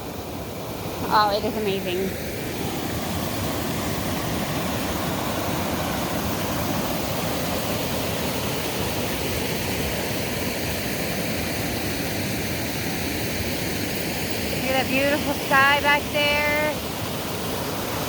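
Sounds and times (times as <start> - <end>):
water rushing over waterfall: 0.0 - 13.7, 14.5 - 18.0.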